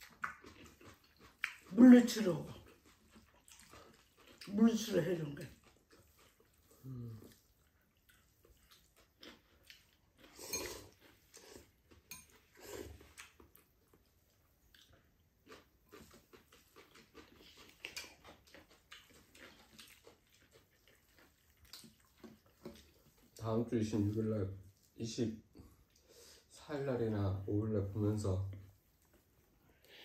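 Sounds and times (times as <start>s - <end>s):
chewing noodles: 0.0s - 26.6s, 27.9s - 30.0s.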